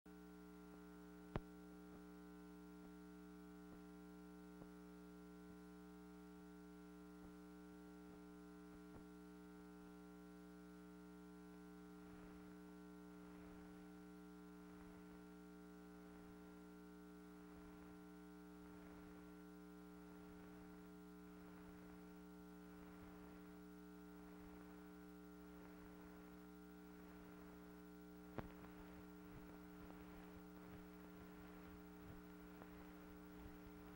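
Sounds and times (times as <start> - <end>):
faint electrical hum: 0.1 - 33.9.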